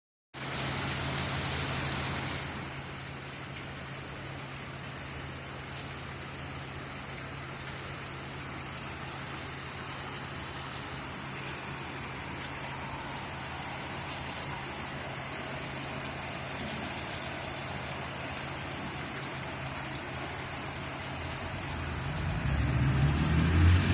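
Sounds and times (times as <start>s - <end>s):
heavy rain falling: 0.4s - 23.9s.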